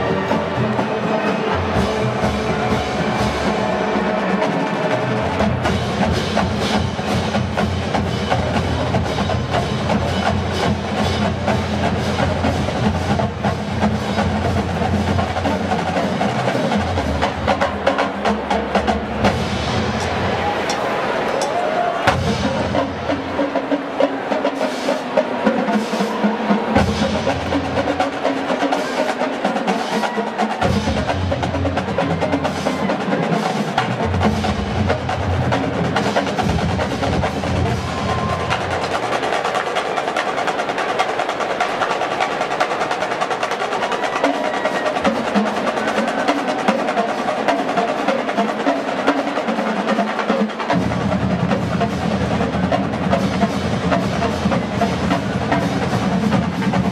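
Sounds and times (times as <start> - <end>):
marching snare and tenor drums: 0.0 - 56.9.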